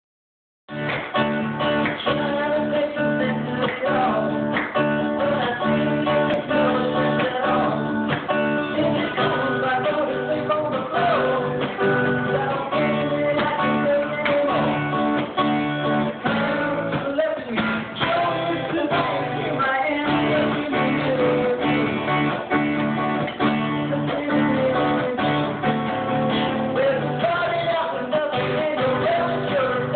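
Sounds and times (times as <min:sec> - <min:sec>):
strummed acoustic guitar: 0:00.7 - 0:29.9
man singing: 0:01.6 - 0:29.9.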